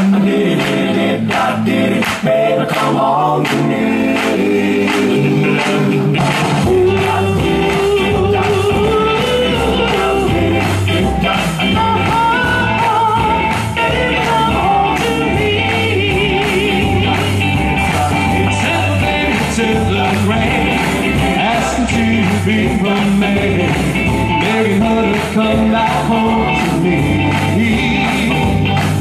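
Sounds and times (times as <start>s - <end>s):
bass line: 0.0s - 29.0s
live rock and roll band: 0.0s - 29.0s
steady drum beat: 0.0s - 29.0s.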